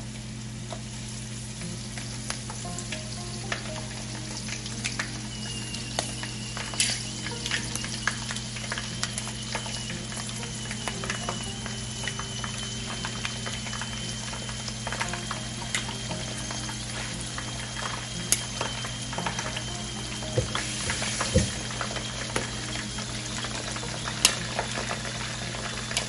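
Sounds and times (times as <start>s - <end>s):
shrimp sizzling in hot oil: 0.0s - 26.0s
steady low hum: 0.0s - 26.0s
crackling pops: 1.6s - 26.0s.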